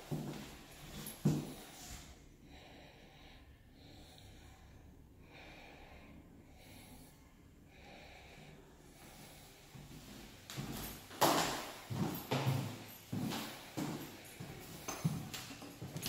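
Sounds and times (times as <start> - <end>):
person breathing: 0.2 - 16.0.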